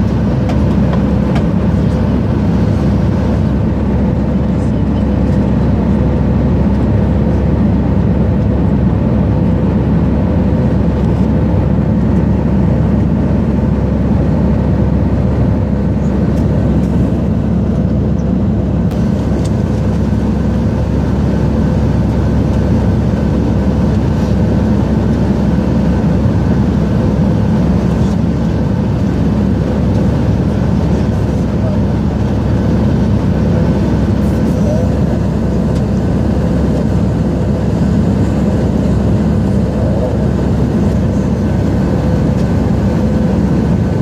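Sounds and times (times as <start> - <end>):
airliner cabin engine drone: 0.0 - 44.0.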